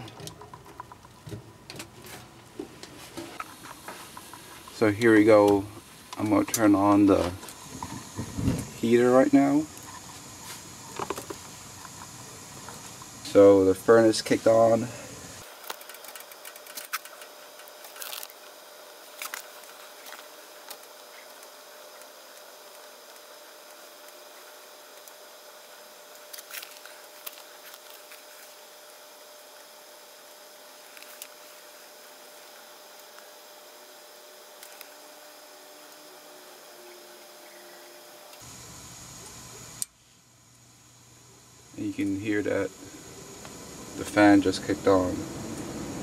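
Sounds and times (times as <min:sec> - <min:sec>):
faint steady hum: 0:00.0 - 0:46.0
gas burner hiss: 0:02.0 - 0:46.0.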